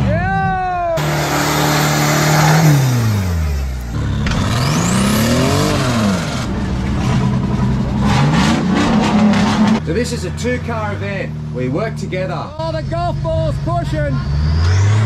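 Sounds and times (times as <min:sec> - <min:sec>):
off-road engines revving: 0:00.0 - 0:15.0.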